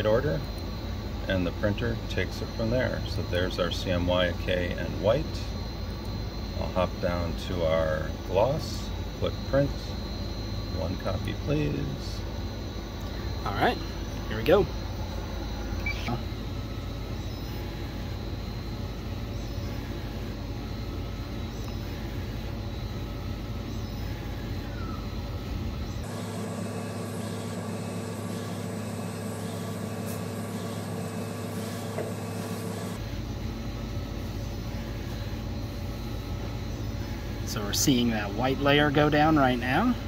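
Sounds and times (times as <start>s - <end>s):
printer mechanical hum: 0.0s - 40.0s.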